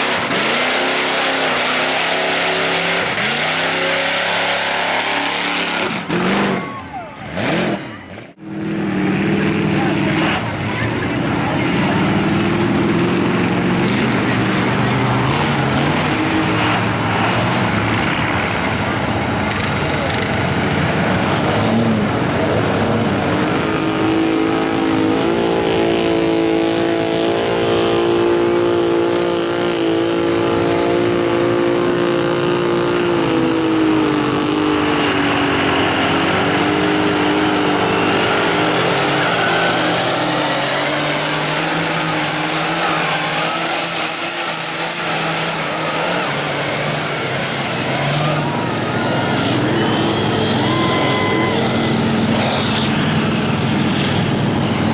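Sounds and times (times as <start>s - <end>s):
truck engine revving high: 0.0s - 54.9s.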